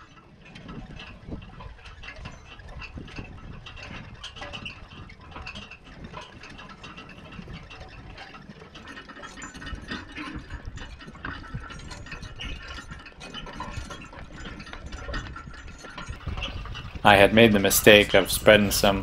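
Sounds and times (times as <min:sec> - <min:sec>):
harrow rattling and clanking: 0:00.0 - 0:19.0
hitch chains jingling: 0:00.0 - 0:19.0.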